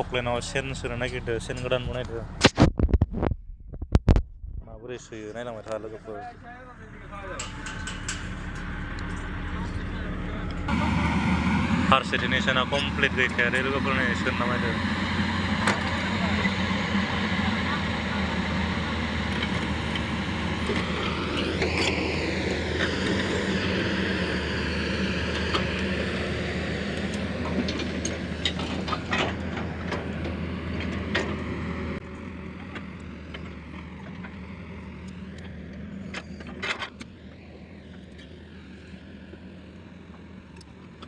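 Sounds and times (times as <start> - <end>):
excavator engine running: 0.0 - 41.0.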